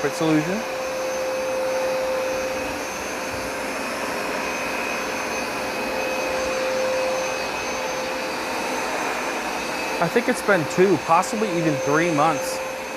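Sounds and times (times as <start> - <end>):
carpet cleaner motor whining: 0.0 - 12.9.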